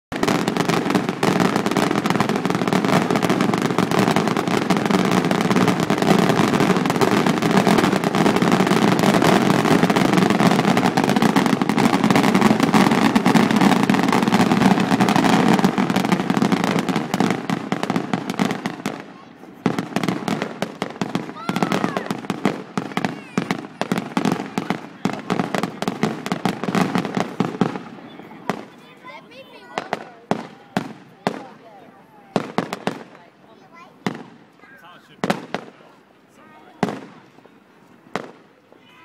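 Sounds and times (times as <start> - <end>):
firework shells bursting and crackling: 0.1 - 28.8, 32.3 - 33.2, 35.2 - 35.9, 36.8 - 38.8.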